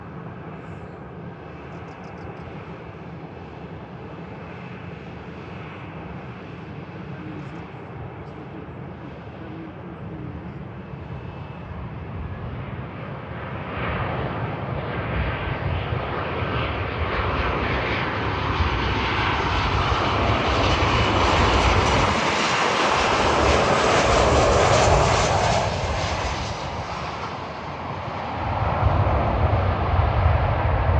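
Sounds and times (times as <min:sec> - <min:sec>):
airliner jet engines: 0:00.0 - 0:30.9.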